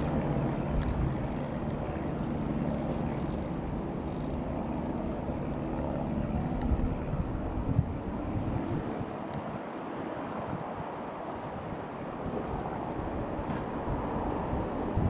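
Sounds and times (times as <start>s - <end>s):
light aircraft engine droning: 0.0s - 15.0s
wind rumble on microphone: 0.0s - 15.0s.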